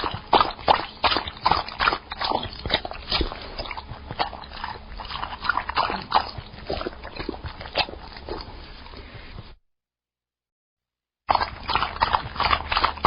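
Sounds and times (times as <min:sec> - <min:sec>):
dog lapping water: 0:00.0 - 0:09.3, 0:11.3 - 0:13.0.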